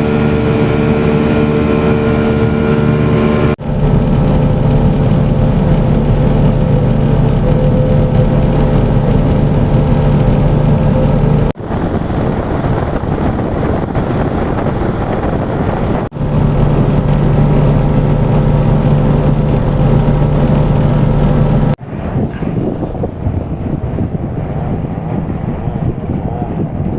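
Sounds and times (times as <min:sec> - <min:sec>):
engine humming: 0:00.0 - 0:23.3
rough rushing noise: 0:00.0 - 0:26.9.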